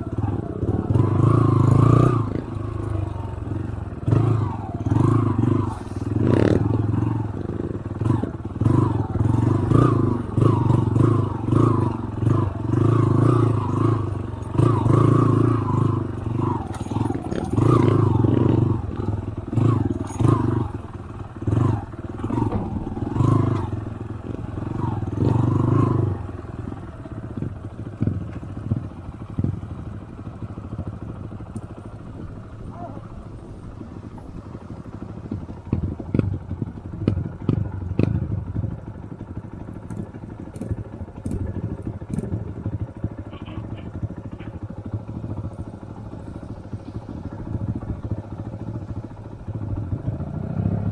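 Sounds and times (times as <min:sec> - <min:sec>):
motorcycle engine revving: 0:00.0 - 0:50.9
rattling over rough ground: 0:00.0 - 0:50.9.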